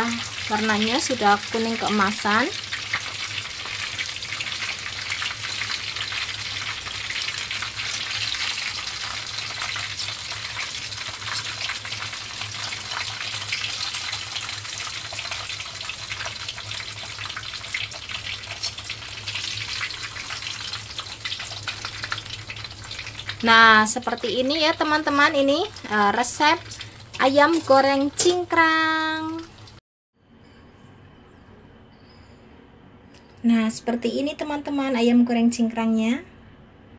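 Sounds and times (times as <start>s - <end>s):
oil sizzling and crackling: 0.0s - 29.8s.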